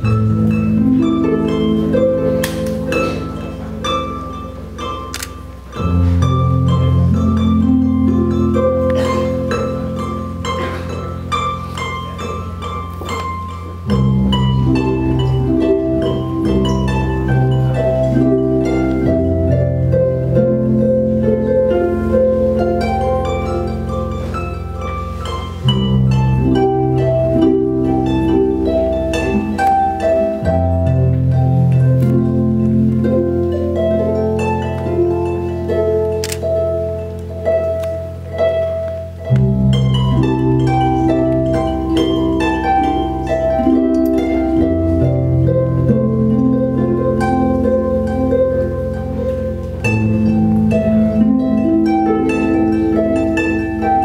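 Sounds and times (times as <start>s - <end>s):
harp plucked notes and arpeggios: 0.0s - 54.0s.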